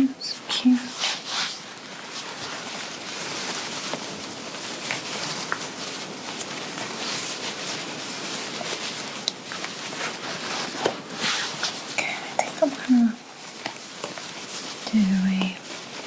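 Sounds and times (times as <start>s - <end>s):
fabric rustling: 0.0s - 16.0s.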